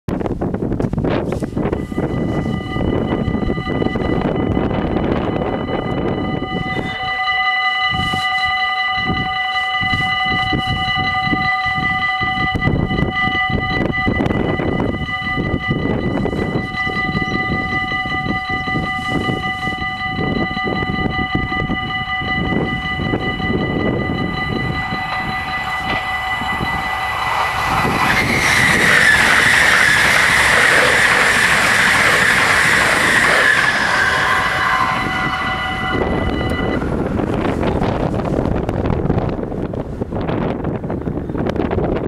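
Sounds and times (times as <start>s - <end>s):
electric train passing: 0.4s - 42.0s
level-crossing bells ringing: 1.6s - 38.4s.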